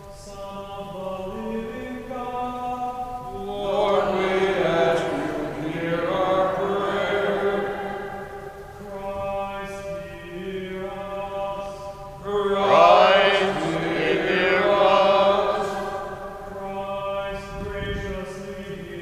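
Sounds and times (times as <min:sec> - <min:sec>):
men singing a slow chant: 0:00.0 - 0:19.0.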